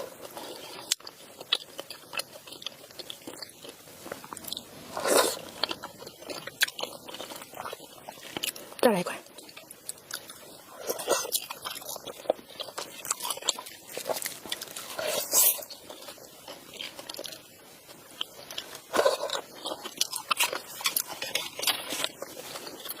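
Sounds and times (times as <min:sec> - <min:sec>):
person biting and chewing: 0:00.0 - 0:08.8, 0:09.4 - 0:23.0.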